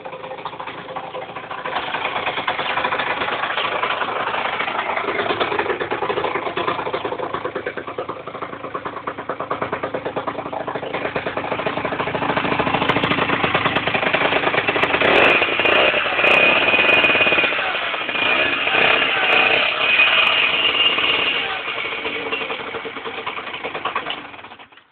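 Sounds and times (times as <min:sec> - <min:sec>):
two-stroke engine revving: 0:00.0 - 0:24.8.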